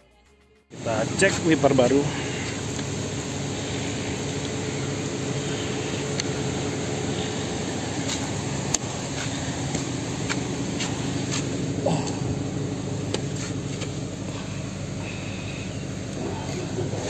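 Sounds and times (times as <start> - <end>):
car engine running: 0.6 - 17.0.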